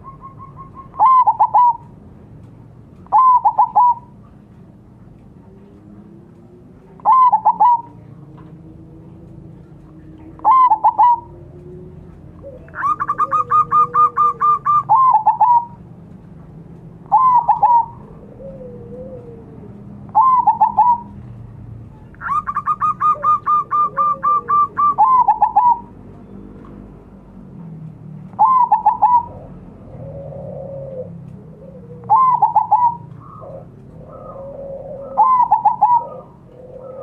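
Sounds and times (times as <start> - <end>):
dove cooing song: 0.0 - 2.1, 3.0 - 4.5, 5.1 - 15.9, 16.9 - 26.2, 28.2 - 37.0.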